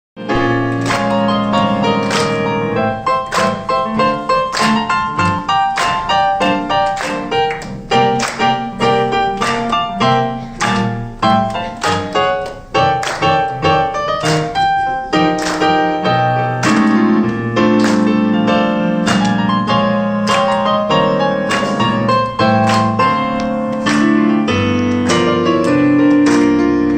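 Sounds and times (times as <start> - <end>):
keyboard music: 0.2 - 26.9.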